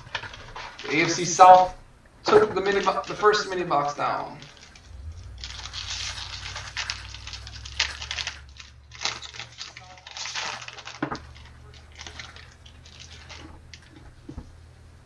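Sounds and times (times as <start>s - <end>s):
foil wrapper crinkling: 0.0s - 1.7s, 2.5s - 14.5s.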